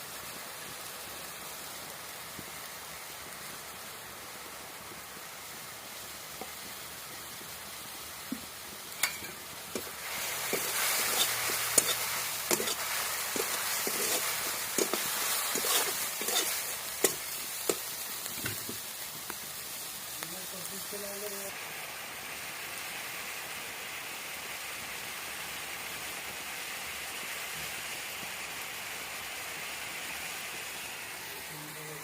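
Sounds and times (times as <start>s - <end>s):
food sizzling in hot oil: 0.0s - 32.0s.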